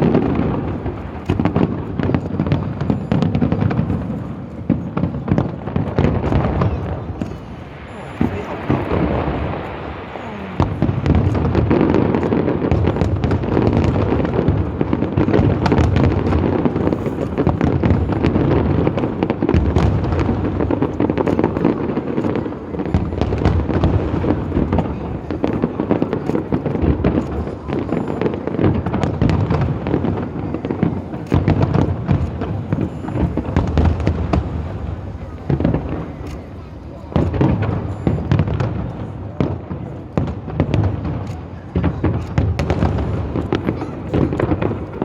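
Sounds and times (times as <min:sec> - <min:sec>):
fireworks booming and crackling: 0:00.0 - 0:45.0.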